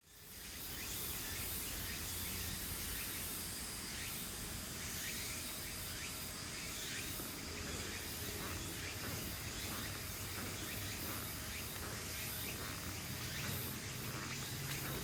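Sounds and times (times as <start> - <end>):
background hiss: 0.1 - 15.0.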